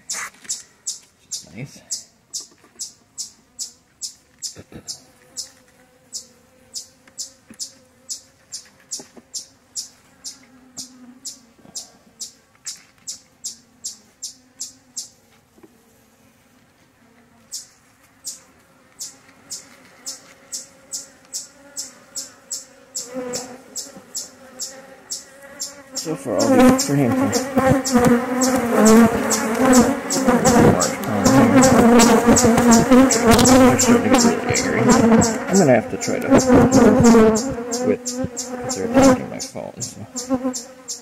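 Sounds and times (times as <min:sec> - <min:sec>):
honeybees humming: 0:00.0 - 0:41.0
bees buzzing loudly: 0:02.0 - 0:41.0.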